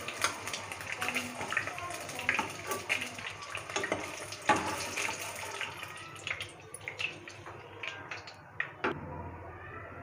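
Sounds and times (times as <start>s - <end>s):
hot oil sizzling and crackling: 0.0s - 8.4s.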